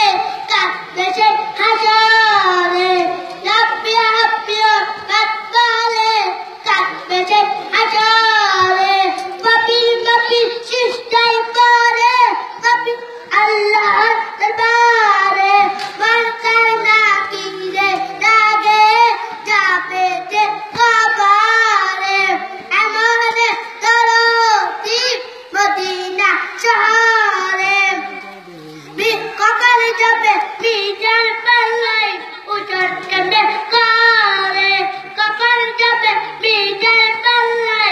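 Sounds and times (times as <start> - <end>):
boy singing into a microphone: 0.0 - 37.9.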